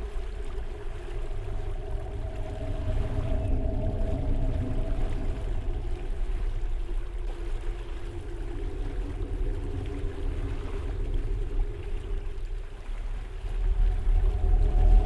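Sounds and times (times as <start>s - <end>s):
dark ambient drone: 0.0s - 15.0s.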